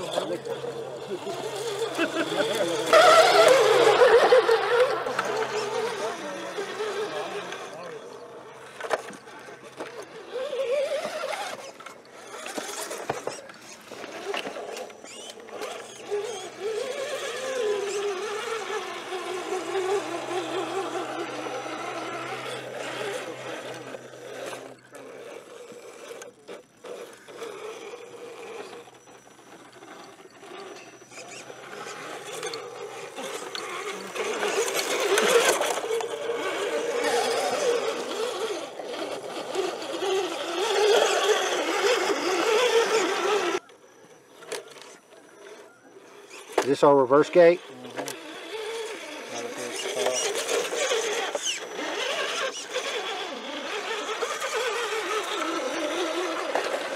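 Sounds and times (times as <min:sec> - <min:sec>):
electric motor and gearbox whining: 0:00.0 - 0:56.9.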